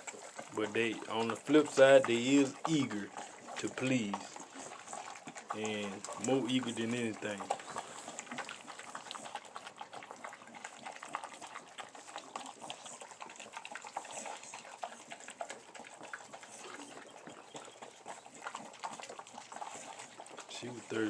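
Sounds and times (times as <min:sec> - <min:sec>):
dog lapping and slurping: 0:00.0 - 0:21.0.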